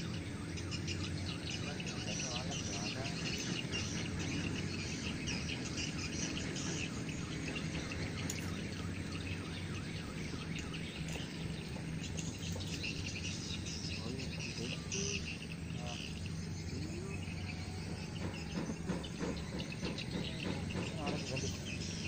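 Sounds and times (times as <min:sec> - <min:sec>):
birds chirping: 0:00.0 - 0:22.0
insects calling: 0:00.0 - 0:22.0.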